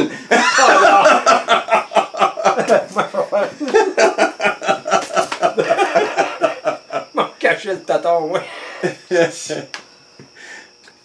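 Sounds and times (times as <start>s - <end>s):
men laughing: 0.0s - 7.6s, 8.2s - 9.8s.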